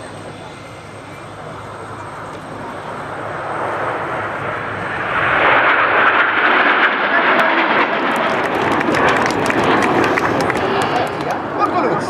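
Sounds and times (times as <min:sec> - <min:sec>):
jet aircraft low pass: 0:00.0 - 0:12.0.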